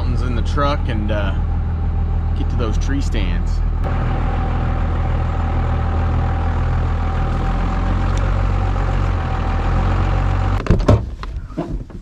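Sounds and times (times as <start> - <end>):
truck engine running: 0.0 - 10.7.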